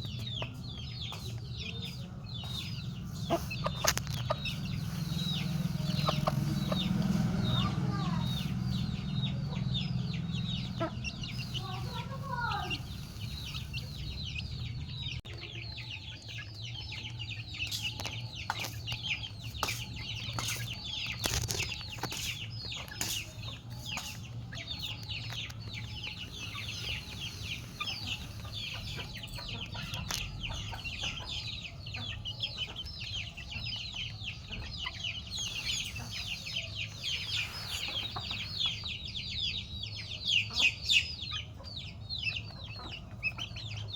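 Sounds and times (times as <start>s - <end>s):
chickens clucking: 0.0s - 43.9s
chicks chirping: 0.0s - 43.9s.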